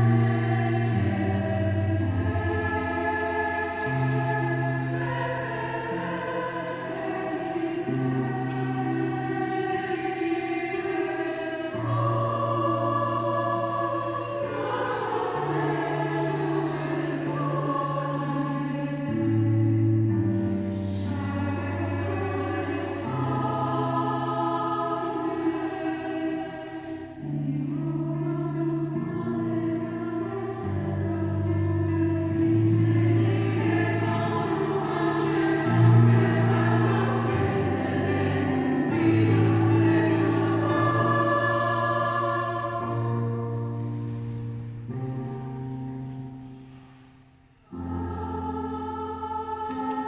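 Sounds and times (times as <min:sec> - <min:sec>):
choir singing in harmony: 0:00.0 - 0:50.0.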